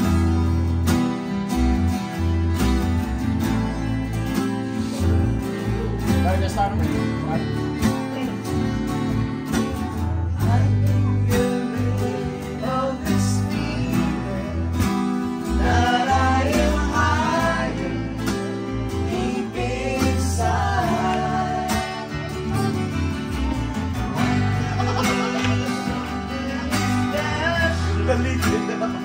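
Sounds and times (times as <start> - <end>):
acoustic guitars strumming: 0.0 - 29.0
bass guitar line: 0.0 - 29.0.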